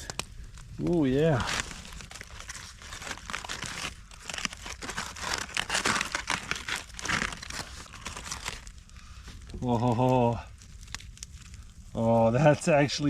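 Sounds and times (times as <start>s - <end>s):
wrapping crinkling: 0.0s - 13.0s.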